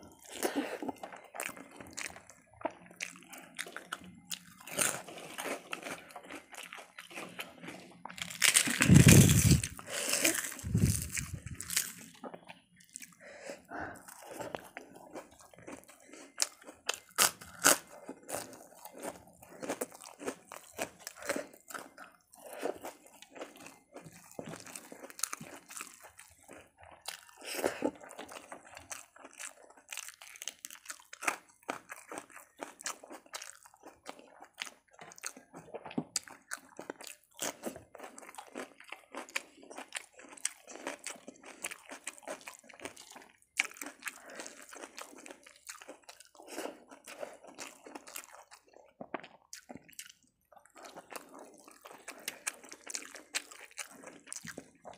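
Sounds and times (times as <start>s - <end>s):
crunching and chewing: 0.0s - 54.9s.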